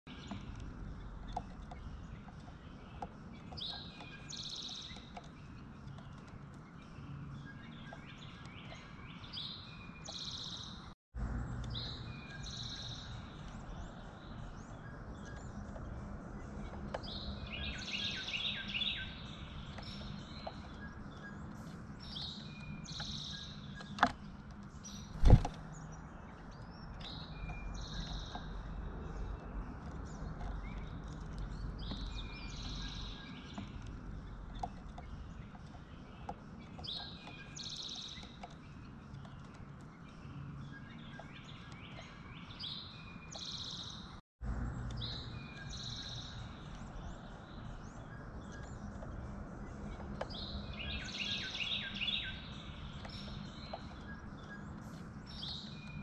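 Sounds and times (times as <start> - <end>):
outdoor background: 0.0 - 56.0
songbirds chirping: 0.1 - 56.0.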